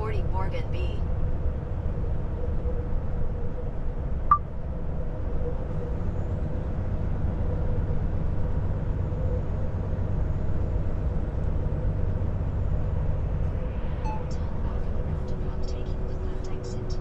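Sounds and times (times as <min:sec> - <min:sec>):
faint steady hum: 0:00.0 - 0:17.0
truck diesel engine rumble: 0:00.0 - 0:17.0.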